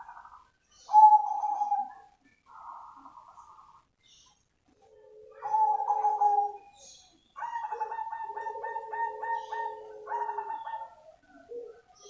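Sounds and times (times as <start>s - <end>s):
dove cooing: 0.0s - 3.8s, 4.7s - 6.8s, 7.4s - 12.0s.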